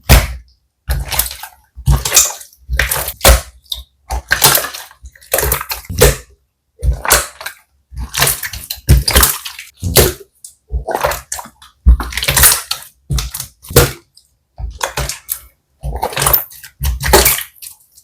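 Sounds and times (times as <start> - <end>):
slime squishing by hand: 0.0 - 18.0.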